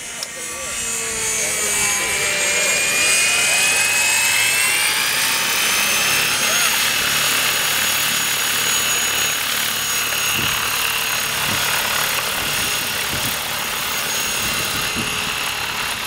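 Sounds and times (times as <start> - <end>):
model aircraft engine whine: 0.0 - 16.0.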